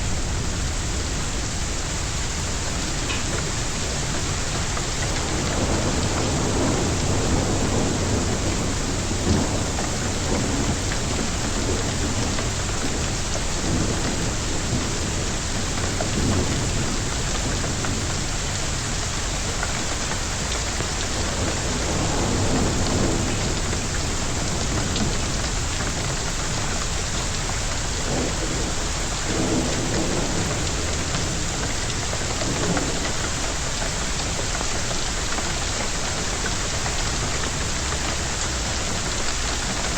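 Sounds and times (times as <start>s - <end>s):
hail and heavy rain pelting: 0.0s - 39.9s
thunder rumbling: 0.0s - 39.9s.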